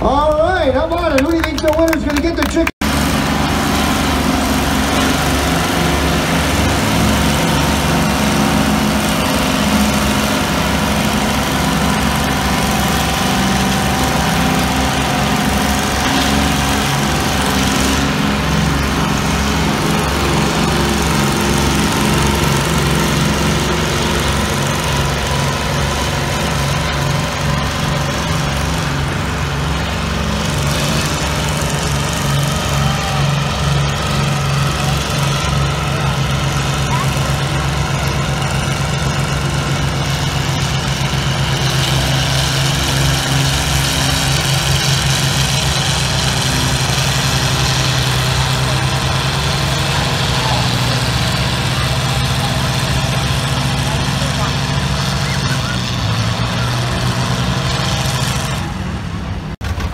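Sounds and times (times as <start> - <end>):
tractor engines under heavy load: 0.0 - 59.9.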